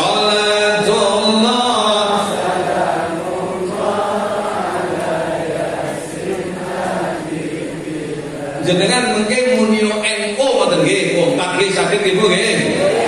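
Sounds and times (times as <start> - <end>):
chanting of devotional verse: 0.0 - 13.0.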